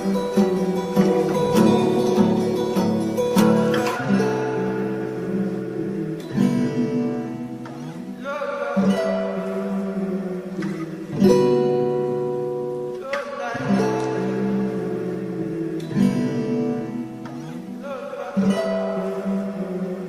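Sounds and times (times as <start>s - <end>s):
acoustic guitar chords ringing: 0.0s - 20.0s.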